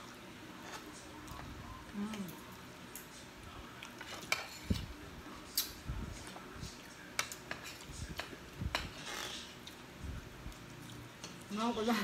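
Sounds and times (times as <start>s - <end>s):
soft chewing: 0.0s - 11.8s.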